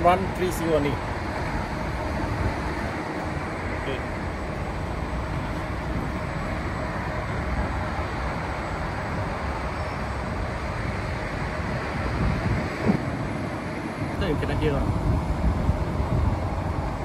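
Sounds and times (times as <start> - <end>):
outdoor condensing units running: 0.0 - 17.0.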